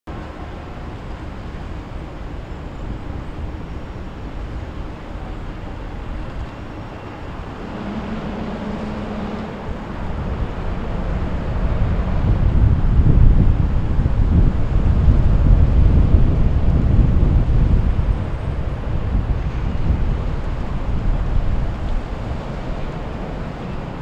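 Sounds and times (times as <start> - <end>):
boat engine droning: 0.1 - 24.0.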